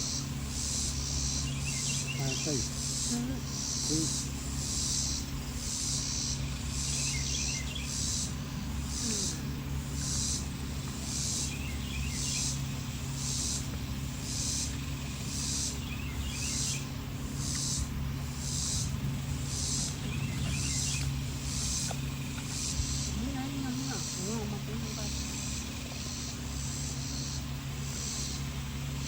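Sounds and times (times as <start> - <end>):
insects calling: 0.0 - 29.0
low hum: 0.0 - 29.0.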